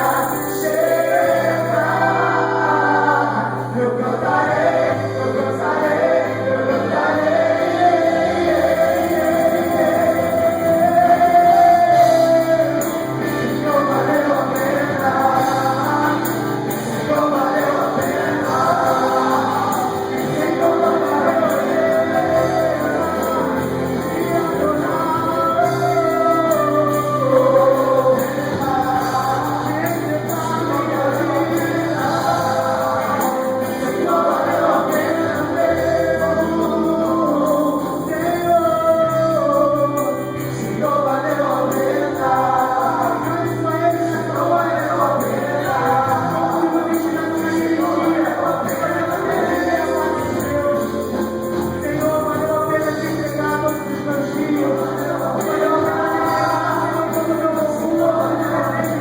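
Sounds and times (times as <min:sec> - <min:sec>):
band playing: 0:00.0 - 0:59.0
people singing worship song: 0:00.0 - 0:59.0.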